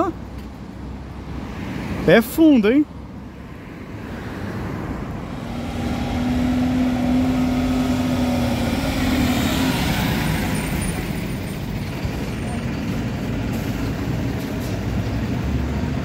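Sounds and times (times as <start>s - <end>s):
bus driving past: 3.0s - 16.0s.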